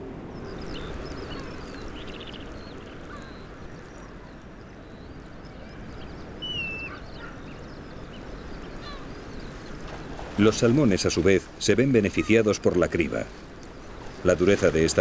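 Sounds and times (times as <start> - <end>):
gulls crying: 0.0 - 15.0
low background rush: 0.0 - 15.0.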